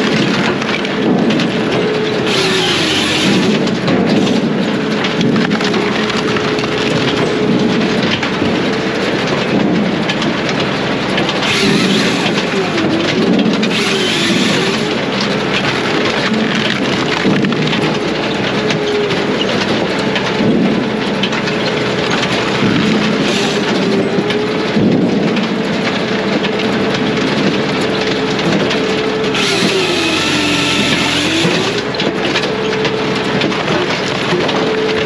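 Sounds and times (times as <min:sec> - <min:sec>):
crackle of wood being worked: 0:00.0 - 0:35.0
diesel firewood processor running: 0:00.0 - 0:35.0.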